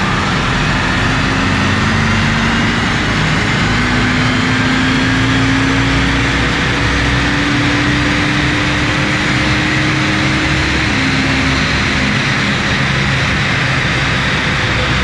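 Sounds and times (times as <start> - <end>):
car engine under load: 0.0 - 15.0
loud steady rush: 0.0 - 15.0.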